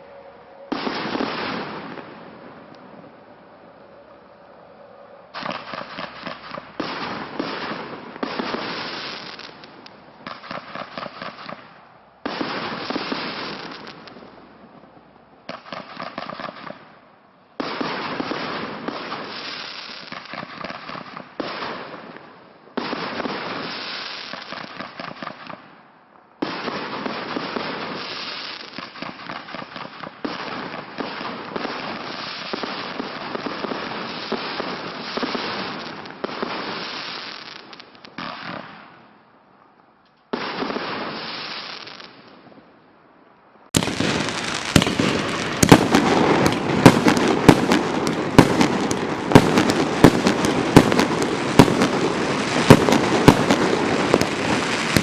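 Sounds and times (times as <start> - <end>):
fireworks firing: 0.0 - 4.2, 5.3 - 39.3, 40.2 - 42.8, 43.7 - 55.0.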